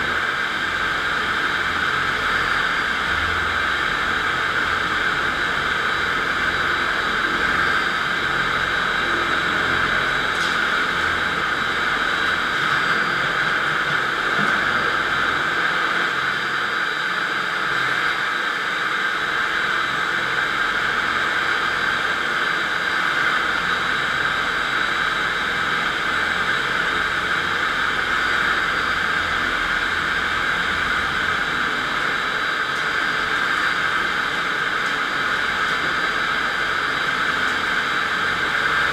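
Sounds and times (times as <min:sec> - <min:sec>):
floor grinder grinding concrete: 0:00.0 - 0:38.9.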